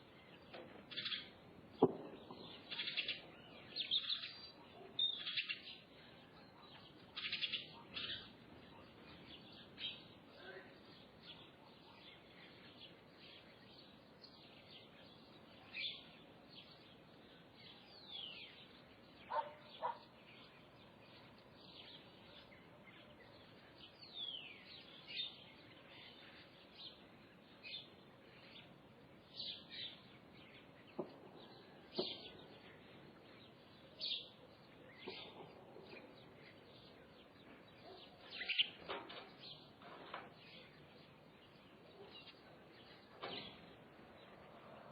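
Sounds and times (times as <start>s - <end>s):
wild birds chirping and whistling: 0.0s - 44.9s.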